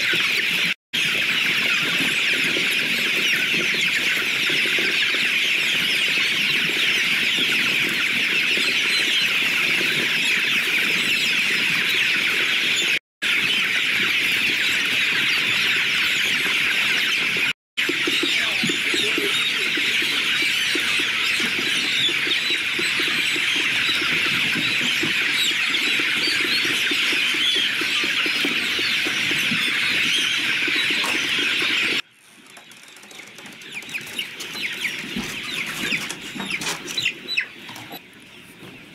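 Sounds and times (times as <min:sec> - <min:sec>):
chicks cheeping: 0:00.0 - 0:38.9.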